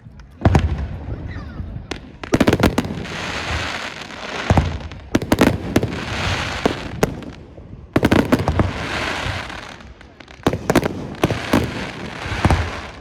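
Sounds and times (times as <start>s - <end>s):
fireworks bursting: 1.9s - 13.0s.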